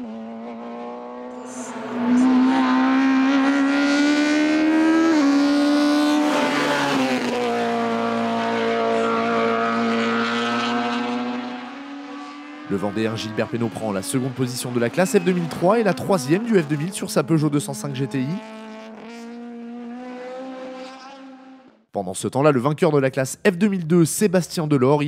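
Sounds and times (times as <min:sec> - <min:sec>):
race car engine at high revs: 0:00.0 - 0:21.9.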